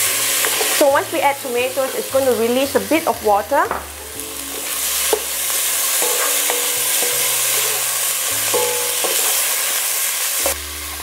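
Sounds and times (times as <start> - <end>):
tomatoes sizzling in hot fat: 0.0 - 11.0.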